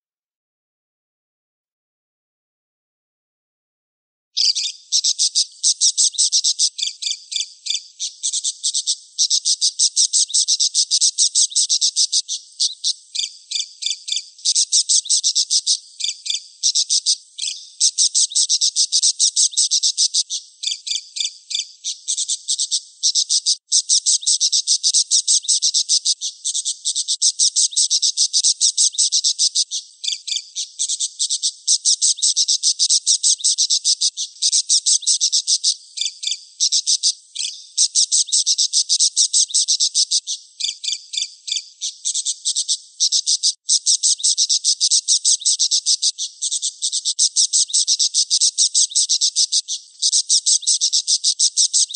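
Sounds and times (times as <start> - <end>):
budgerigar chattering: 4.4 - 51.9.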